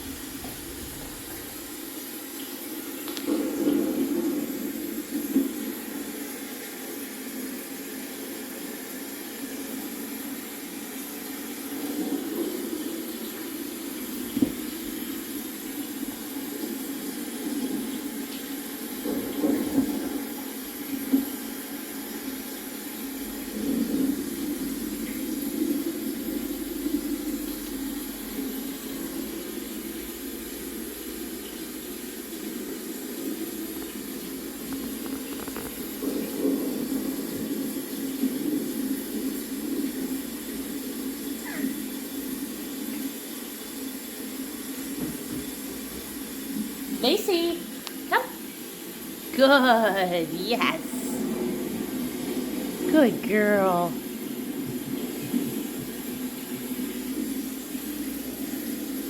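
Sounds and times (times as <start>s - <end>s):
rain rushing: 0.0s - 44.9s, 45.5s - 59.0s.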